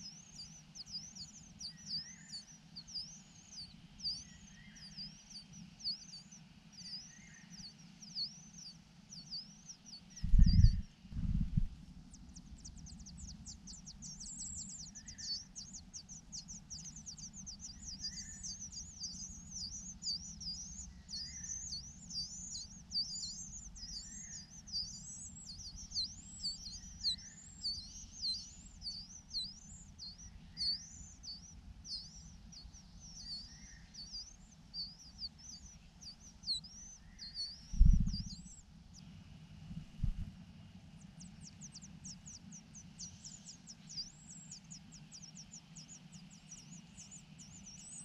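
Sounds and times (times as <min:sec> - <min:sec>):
nestlings chirping: 0:00.0 - 0:38.6, 0:41.1 - 0:48.0.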